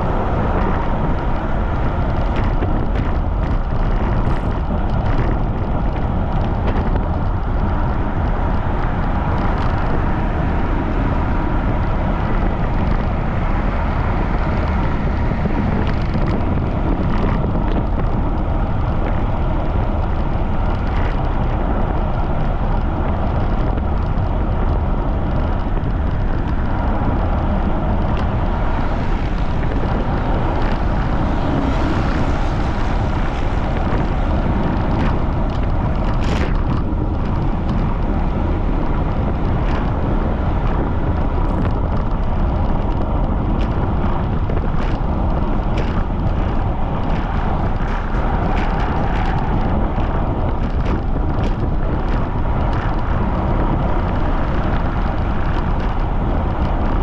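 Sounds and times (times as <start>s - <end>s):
wind rushing across microphone: 0.0s - 57.0s.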